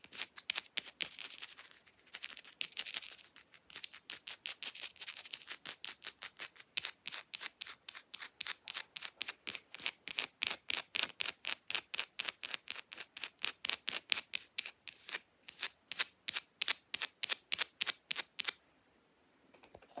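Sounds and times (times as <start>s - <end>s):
fake nails scratching: 0.0s - 18.6s.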